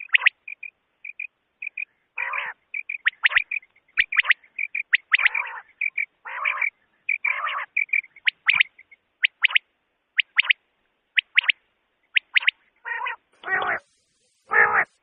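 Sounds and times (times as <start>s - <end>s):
quail calling: 0.0s - 9.6s, 10.2s - 10.6s, 11.2s - 15.0s.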